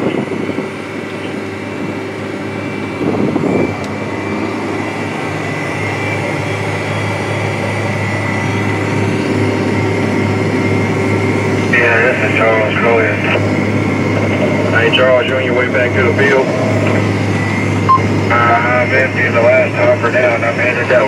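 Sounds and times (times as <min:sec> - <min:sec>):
thin steady whine: 0:00.0 - 0:21.0
tractor engine droning: 0:00.0 - 0:21.0.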